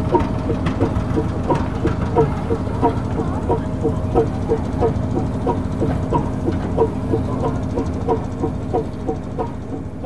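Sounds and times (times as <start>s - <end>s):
diesel tractor engine running: 0.0s - 10.0s.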